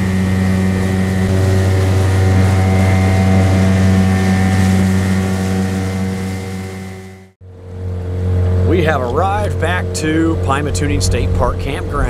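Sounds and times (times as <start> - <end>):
outboard motor running: 0.0 - 12.0
wind and rushing water: 0.0 - 12.0.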